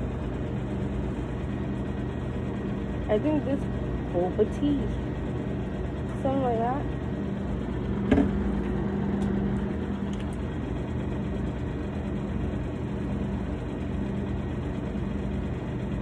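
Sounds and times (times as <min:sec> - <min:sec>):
drink cooler humming: 0:00.0 - 0:16.0.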